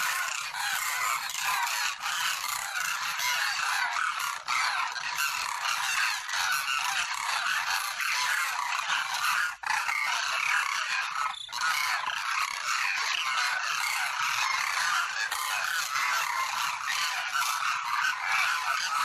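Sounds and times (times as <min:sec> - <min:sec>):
cranes calling: 0:00.0 - 0:19.0.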